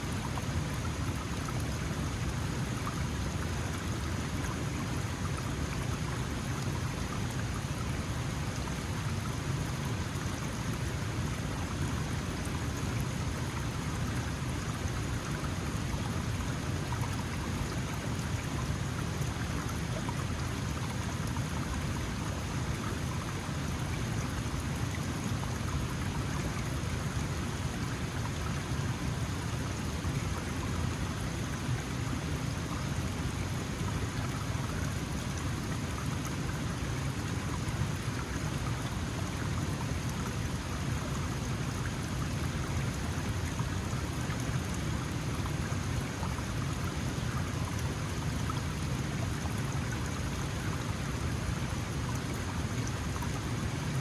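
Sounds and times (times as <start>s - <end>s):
stream flowing over rocks: 0.0s - 54.0s.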